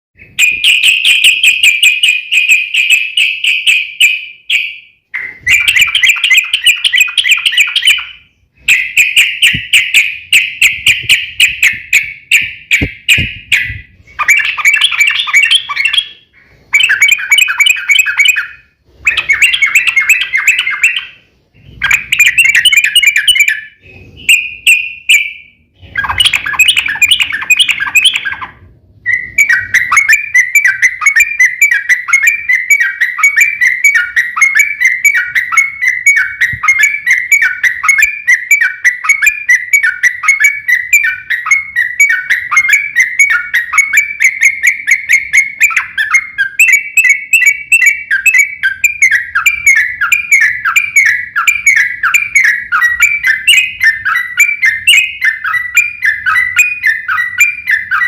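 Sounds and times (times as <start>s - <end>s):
bulbul chattering song: 0.2s - 58.0s.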